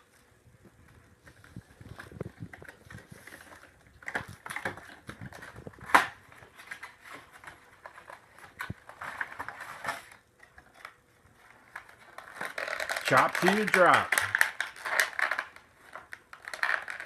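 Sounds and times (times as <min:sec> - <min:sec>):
plastic packaging clicks and crackles: 0:00.0 - 0:17.0.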